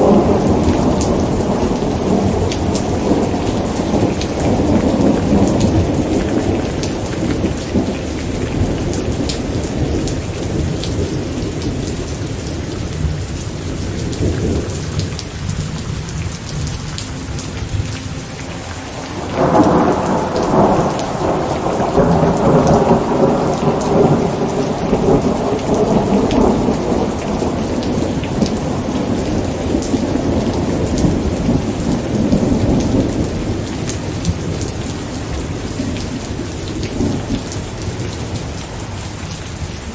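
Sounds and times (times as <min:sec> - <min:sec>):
rolling thunder: 0:00.0 - 0:38.6
steady rain: 0:00.0 - 0:39.9.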